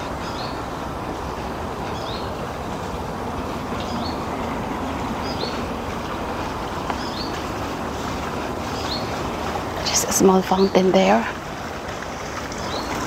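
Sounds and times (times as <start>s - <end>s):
garden fountain water: 0.0s - 13.0s.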